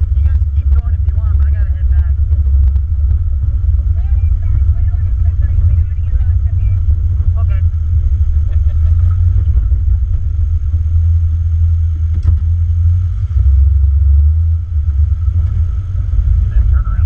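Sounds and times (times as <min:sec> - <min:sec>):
engine rumble inside vehicle: 0:00.0 - 0:17.0.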